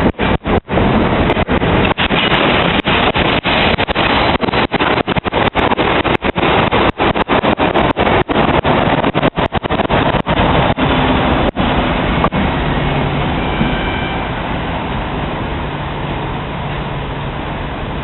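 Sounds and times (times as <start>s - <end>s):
train rolling past: 0.0s - 18.0s.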